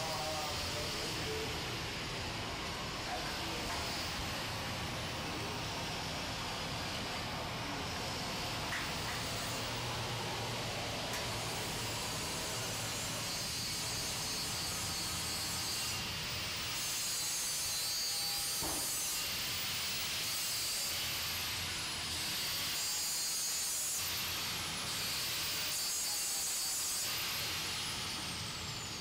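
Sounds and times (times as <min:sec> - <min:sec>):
metal grinding hiss: 0:00.0 - 0:07.0, 0:11.3 - 0:29.0.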